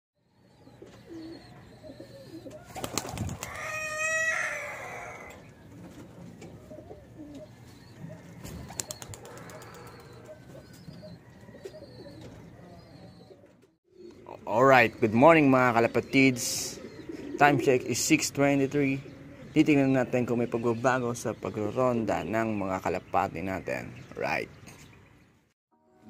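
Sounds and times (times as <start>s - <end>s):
bird calls: 0.2s - 25.4s
pigeons cooing: 0.3s - 21.8s.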